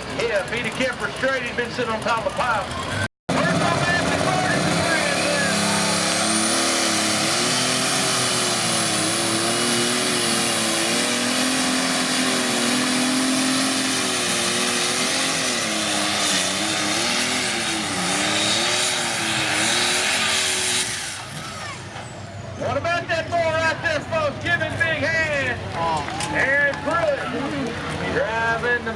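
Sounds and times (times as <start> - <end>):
tractor engine under load: 0.0 - 28.9.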